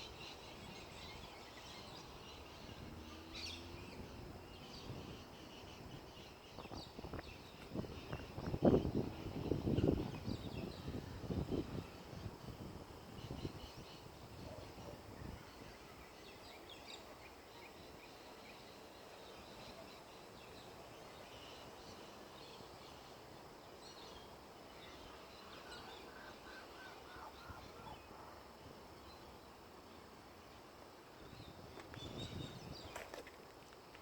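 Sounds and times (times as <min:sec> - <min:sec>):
faint birdsong chirps: 0:00.0 - 0:34.0.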